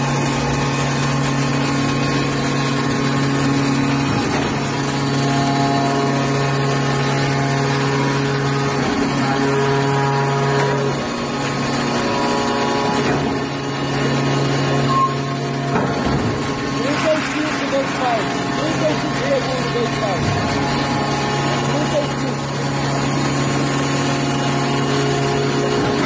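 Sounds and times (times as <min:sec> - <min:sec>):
hydraulic power unit humming: 0:00.0 - 0:26.0.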